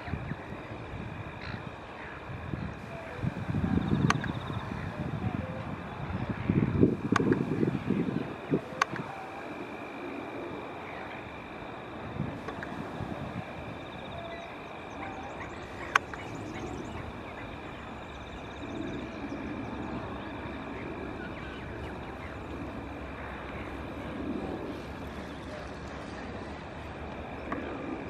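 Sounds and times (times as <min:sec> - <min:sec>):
wind or distant rumble: 0:00.0 - 0:28.0.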